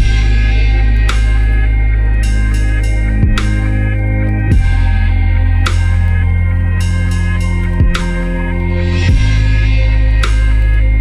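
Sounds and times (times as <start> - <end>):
electronic music with heavy bass: 0.0 - 11.0
falling bass sweeps: 0.0 - 11.0.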